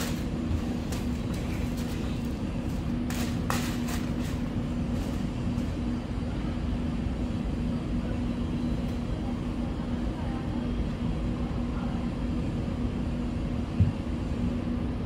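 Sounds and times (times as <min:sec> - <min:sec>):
mechanical hum and rumble: 0:00.0 - 0:15.0.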